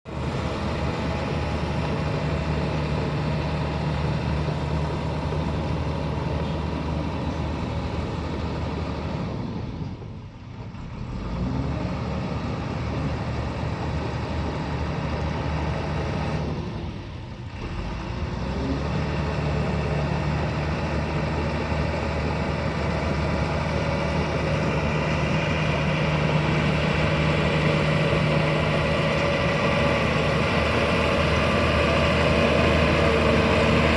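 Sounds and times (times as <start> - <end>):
bulldozer diesel engine running: 0.1 - 33.9.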